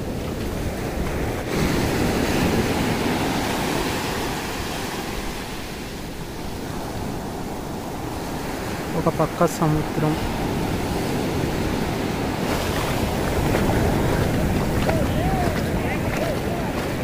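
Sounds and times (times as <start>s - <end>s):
wind on microphone: 0.0s - 9.0s, 9.8s - 17.0s
wave breaking on beach: 0.0s - 17.0s.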